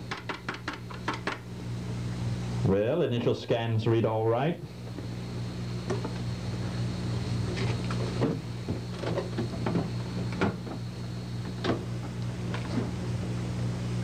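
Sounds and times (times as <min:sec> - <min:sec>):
low electrical hum: 0:00.0 - 0:14.0
faint high whine: 0:00.8 - 0:14.0.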